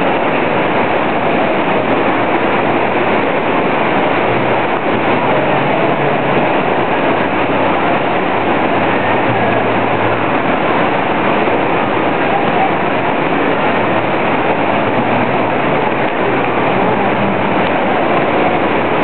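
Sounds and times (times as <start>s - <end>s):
indoor mall background din: 3.6s - 19.0s.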